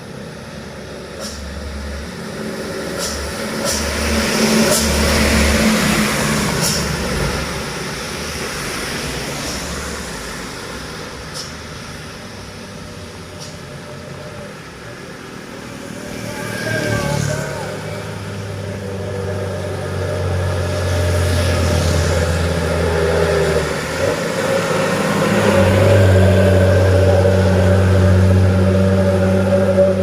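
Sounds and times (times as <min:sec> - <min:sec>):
truck diesel engine labouring: 0:00.0 - 0:30.0.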